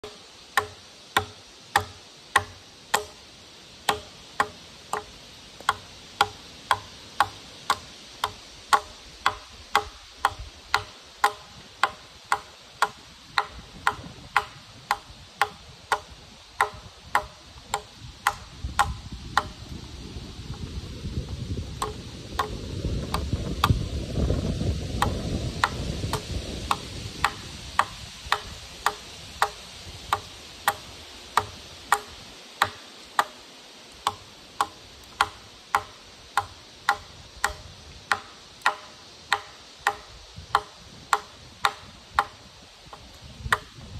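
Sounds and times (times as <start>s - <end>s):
hatchet chopping log: 0.0s - 3.2s, 3.8s - 19.6s, 21.8s - 33.4s, 34.0s - 43.8s.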